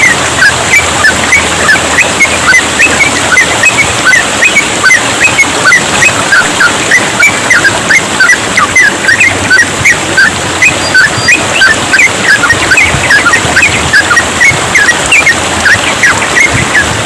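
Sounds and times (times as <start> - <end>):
bird singing rapid chirps: 0.0 - 17.0
trickling water: 0.0 - 17.0.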